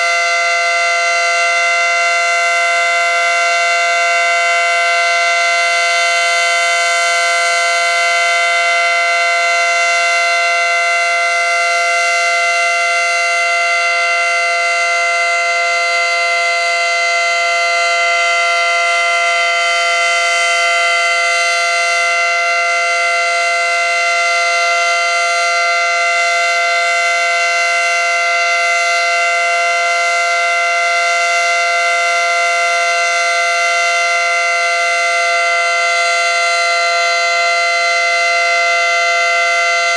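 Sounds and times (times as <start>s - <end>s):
two-note warning siren: 0.0s - 39.9s.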